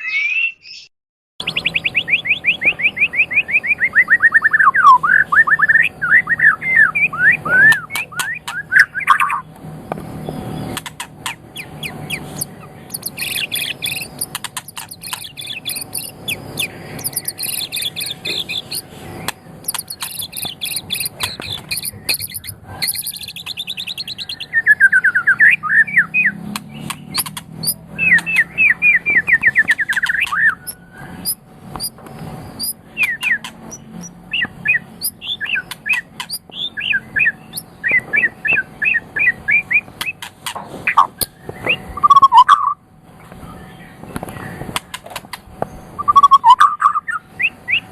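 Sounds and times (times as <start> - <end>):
bird singing trills and whistles: 0.0 - 9.5, 10.2 - 40.3, 40.9 - 42.8, 45.7 - 47.9.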